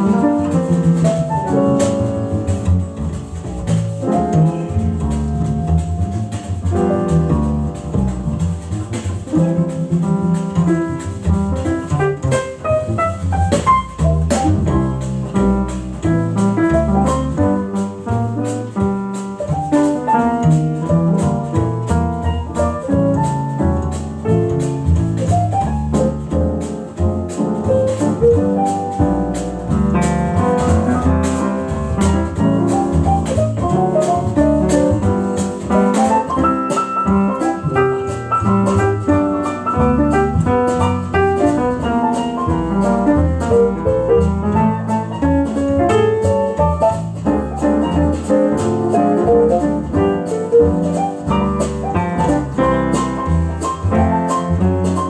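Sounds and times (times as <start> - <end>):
upright piano playing chords: 0.0 - 55.0.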